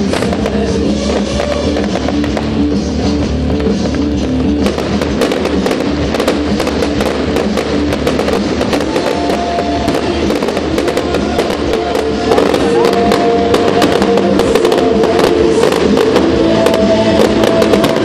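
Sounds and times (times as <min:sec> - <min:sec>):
fireworks crackling and popping: 0:00.0 - 0:18.0
loud music: 0:00.0 - 0:18.0.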